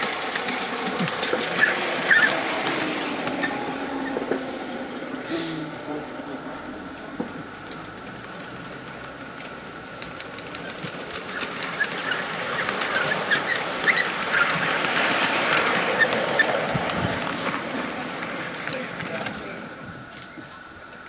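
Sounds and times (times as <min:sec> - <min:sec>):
wheel squeaks: 0:00.0 - 0:05.3, 0:07.5 - 0:21.0
small wheels clattering on rails: 0:00.0 - 0:21.0.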